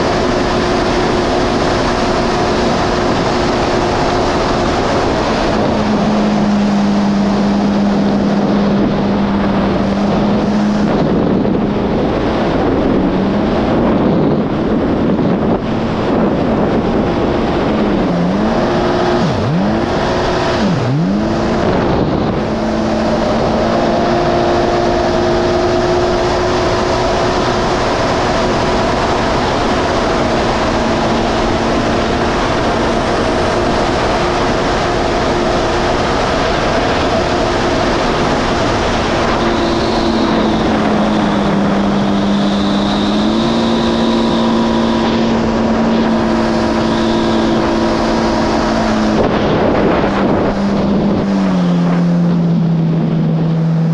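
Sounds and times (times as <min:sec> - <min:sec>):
jet ski engine cruising: 0:00.0 - 0:53.9
wind and water rush: 0:00.0 - 0:53.9.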